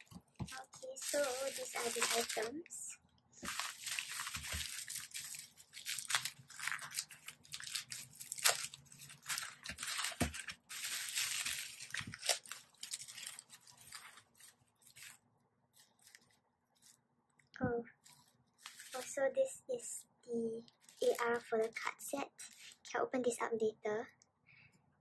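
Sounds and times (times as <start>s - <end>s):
bubble wrap crinkling: 0.0s - 17.0s, 17.9s - 19.3s, 20.7s - 22.8s.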